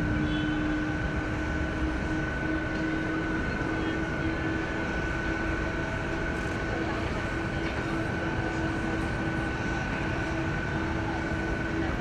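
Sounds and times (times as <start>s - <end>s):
jet engines running: 0.0s - 12.0s
steady engine whine: 0.0s - 12.0s.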